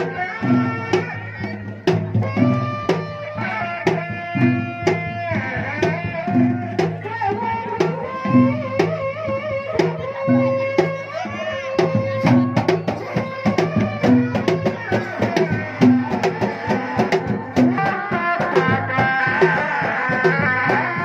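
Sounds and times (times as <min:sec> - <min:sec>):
drums beating steady rhythm: 0:00.0 - 0:21.0.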